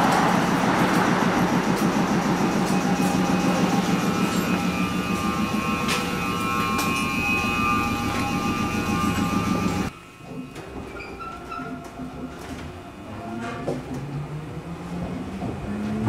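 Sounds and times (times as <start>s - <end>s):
electric train hum and whine: 0.0s - 16.0s.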